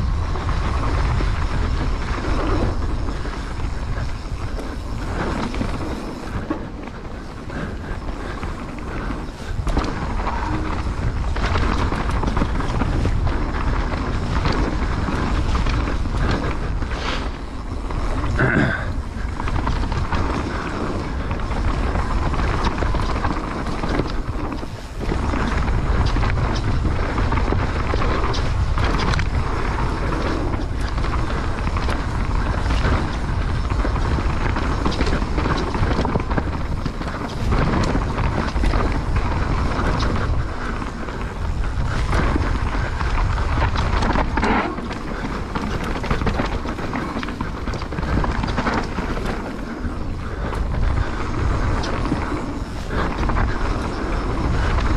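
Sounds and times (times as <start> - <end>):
bike tyre and rattle noise: 0.0 - 54.9
wind buffeting microphone: 0.0 - 54.9.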